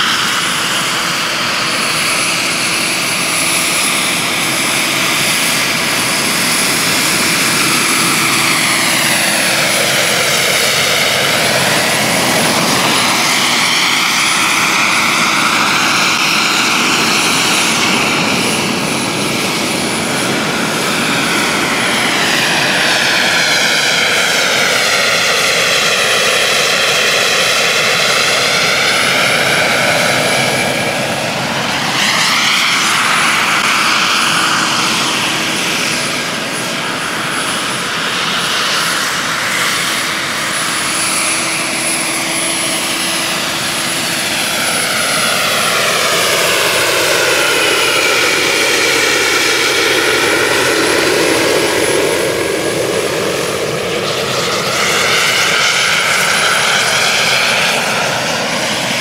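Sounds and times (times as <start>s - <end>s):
model helicopter whirring whine: 0.0s - 59.0s.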